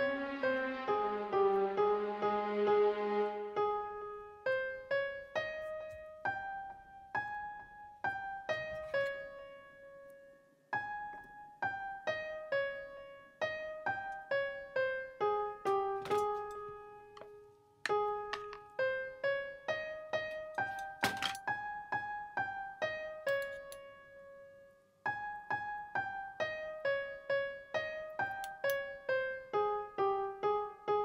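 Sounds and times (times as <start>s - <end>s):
slow keyboard melody: 0.0s - 31.0s.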